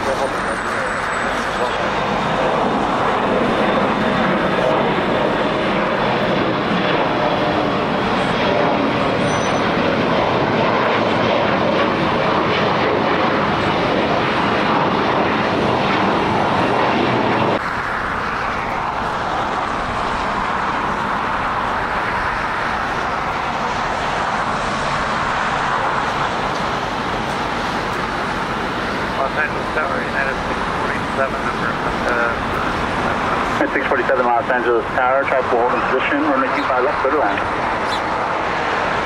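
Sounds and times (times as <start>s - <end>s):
aircraft engine rush: 0.0s - 39.0s.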